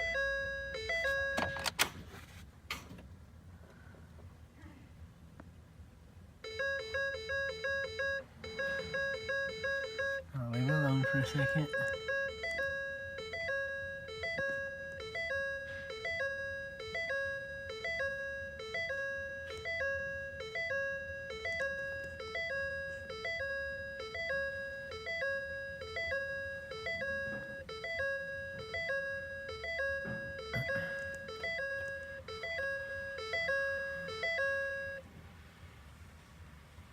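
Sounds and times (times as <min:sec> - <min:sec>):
two-tone electronic warning chime: 0:00.0 - 0:01.7, 0:06.4 - 0:35.1.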